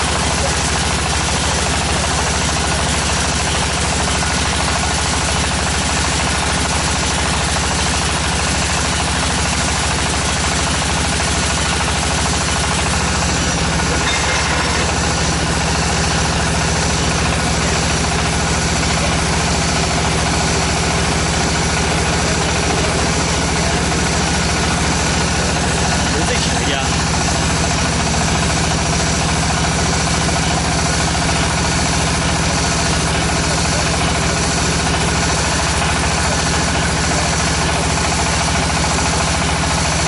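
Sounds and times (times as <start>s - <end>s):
tractor engine knocking: 0.0s - 40.0s.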